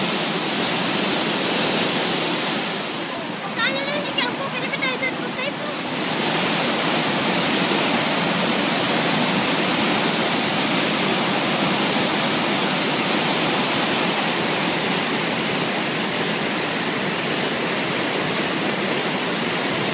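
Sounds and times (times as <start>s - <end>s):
river water rushing: 0.0s - 19.9s.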